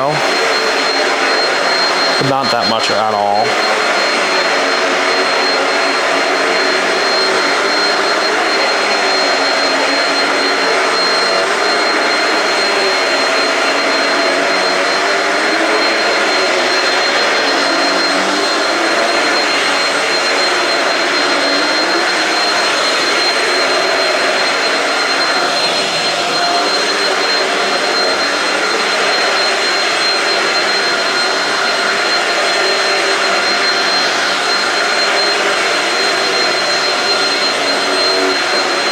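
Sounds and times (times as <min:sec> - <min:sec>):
vacuum cleaner running over carpet: 0:00.0 - 0:38.9.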